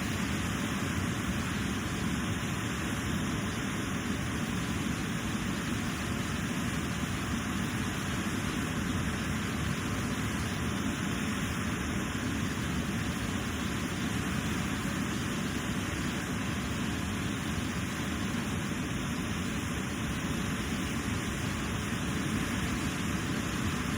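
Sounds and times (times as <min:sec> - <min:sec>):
river and waterfall rushing: 0:00.0 - 0:23.9.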